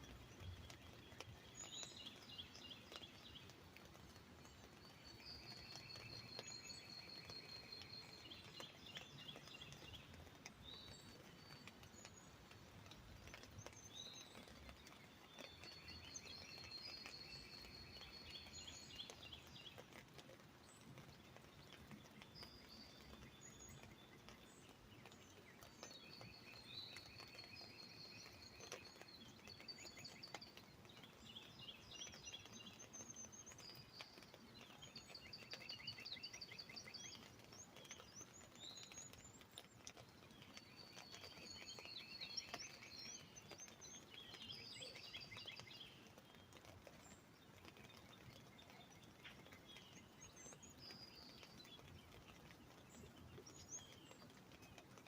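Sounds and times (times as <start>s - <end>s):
drops pattering on an umbrella: 0.0s - 55.0s.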